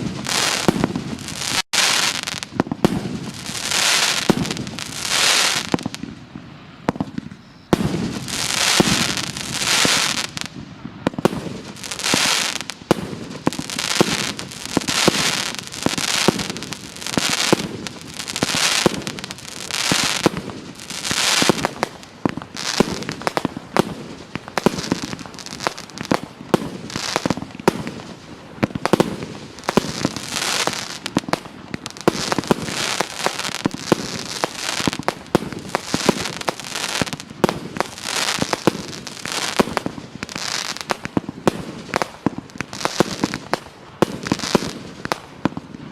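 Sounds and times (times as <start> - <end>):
hissing crackling firework effects: 0.0 - 45.9.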